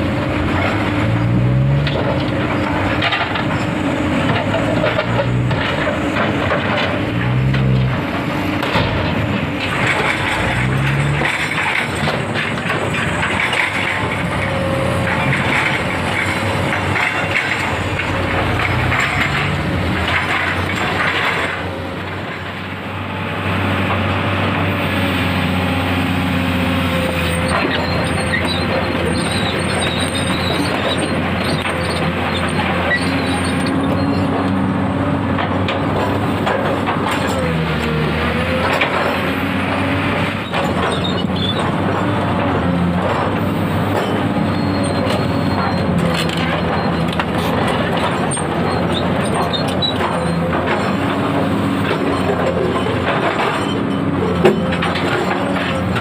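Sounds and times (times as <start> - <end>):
excavator diesel engine running: 0.0 - 56.0
tracks and rocks clanking: 0.0 - 56.0.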